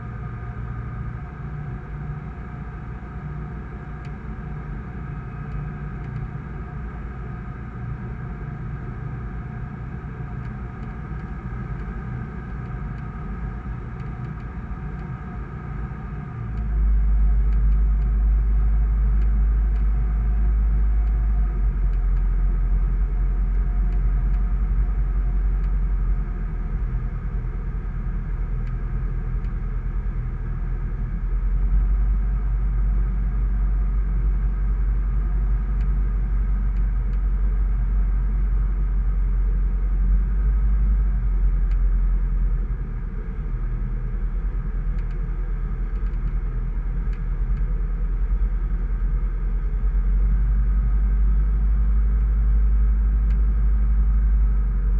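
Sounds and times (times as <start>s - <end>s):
light aircraft engine drone: 0.0s - 54.9s.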